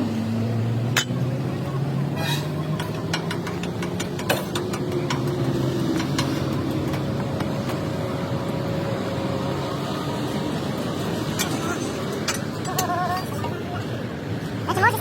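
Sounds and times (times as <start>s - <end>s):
mechanical engine drone: 0.0s - 15.0s.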